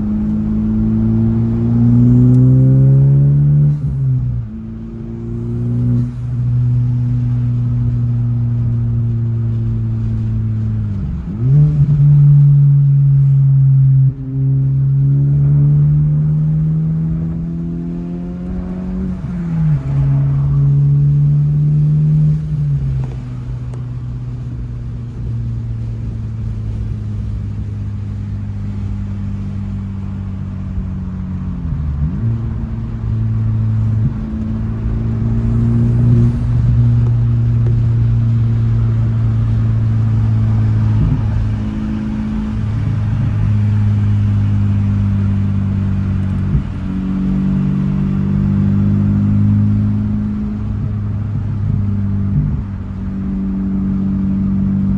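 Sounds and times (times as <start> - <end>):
car exhaust while driving: 0.0 - 54.9.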